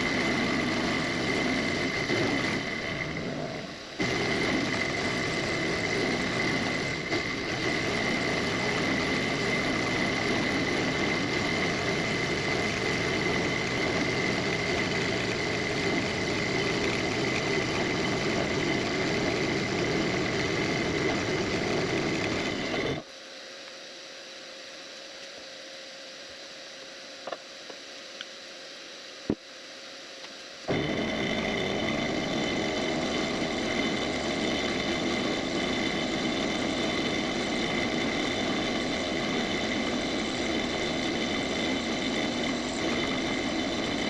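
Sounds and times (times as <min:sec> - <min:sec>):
bit cutting aluminium: 0:00.0 - 0:23.0, 0:30.7 - 0:44.0
low hum: 0:00.0 - 0:23.1, 0:23.8 - 0:44.0
milling machine whine: 0:00.0 - 0:23.1, 0:30.4 - 0:44.0.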